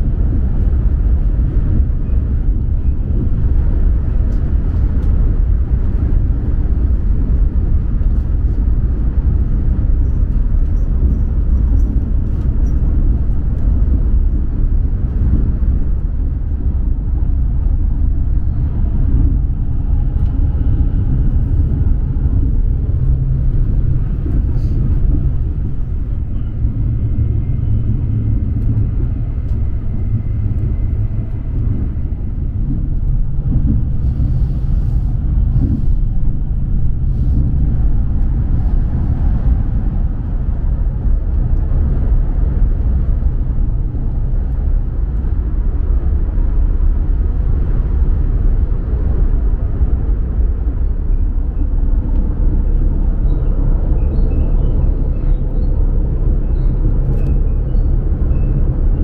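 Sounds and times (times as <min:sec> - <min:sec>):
train low rumble: 0:00.0 - 0:59.0.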